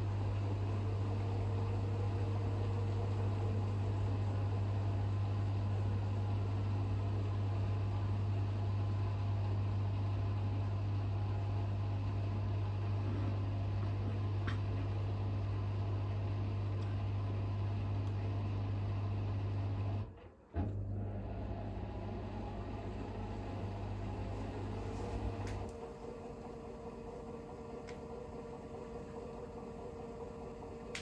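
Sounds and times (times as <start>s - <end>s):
washing machine humming: 0.0s - 31.0s.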